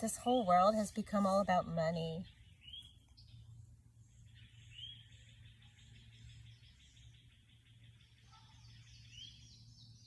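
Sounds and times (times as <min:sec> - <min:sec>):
bird chirp: 0:00.0 - 0:10.0.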